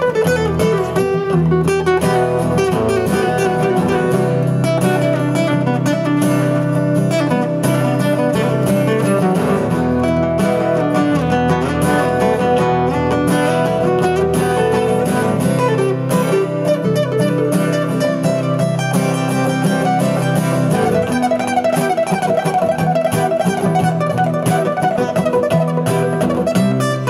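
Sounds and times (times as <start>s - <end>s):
two guitars playing: 0.0s - 27.0s.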